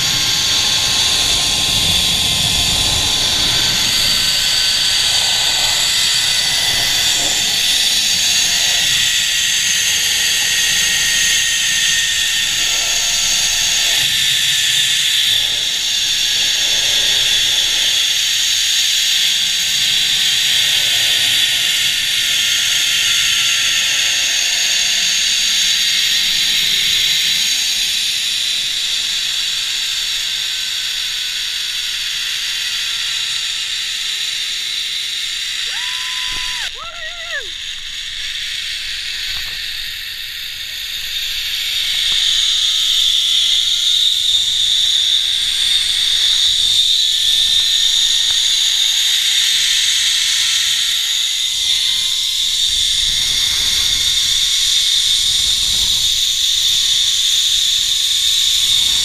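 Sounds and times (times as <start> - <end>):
pulleys whirring on steel cable: 0.0 - 59.0.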